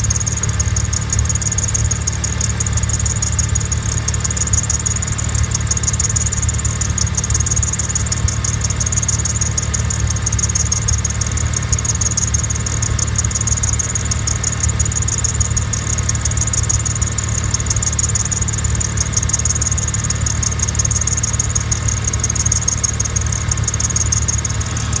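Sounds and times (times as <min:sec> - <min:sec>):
high-pitched scratchy ticking: 0:00.0 - 0:25.0
rotary engine idling: 0:00.0 - 0:25.0.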